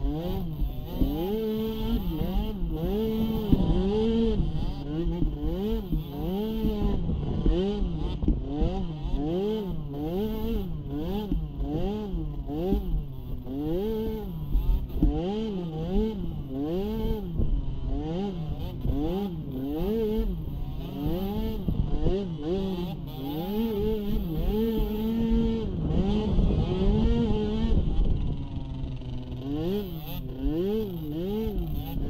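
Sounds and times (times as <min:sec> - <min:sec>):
small atv engine revving: 0:00.0 - 0:32.0.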